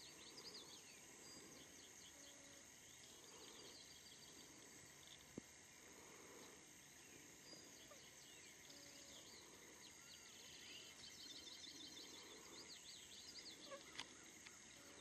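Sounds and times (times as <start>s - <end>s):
distant small birds chirping: 0.0s - 15.0s
steady high hiss: 0.0s - 15.0s.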